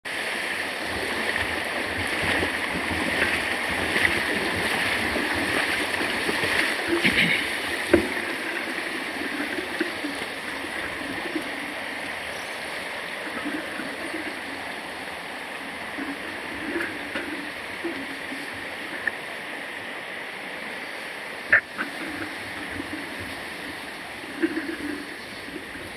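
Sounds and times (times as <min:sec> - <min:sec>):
water rushing over rocks: 0:00.1 - 0:25.9.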